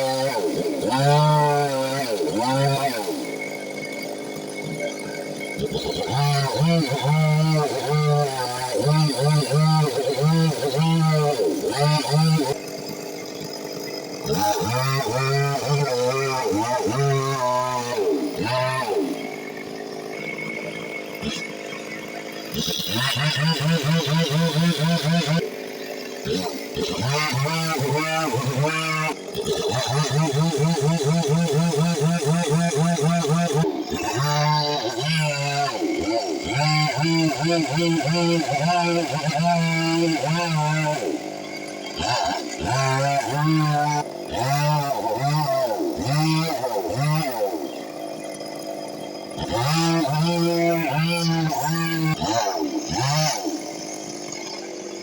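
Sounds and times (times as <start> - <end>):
chainsaw running at high revs: 0.0 - 55.0.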